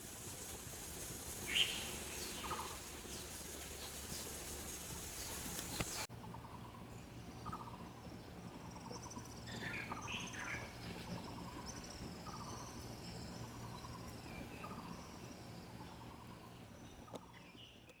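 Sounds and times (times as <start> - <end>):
insects trilling in buzzy bursts: 0.0 - 16.8
birds calling: 1.4 - 17.9.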